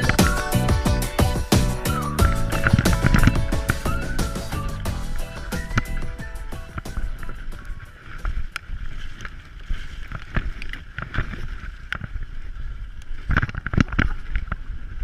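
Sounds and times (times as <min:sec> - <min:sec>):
wind buffeting microphone: 0:01.4 - 0:15.0.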